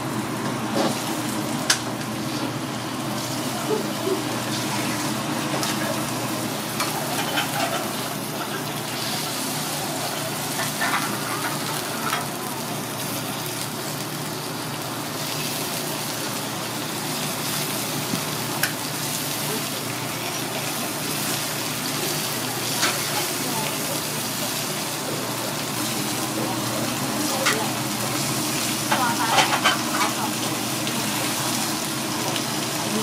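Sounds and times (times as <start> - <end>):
steak sizzling on griddle: 0.0 - 33.0.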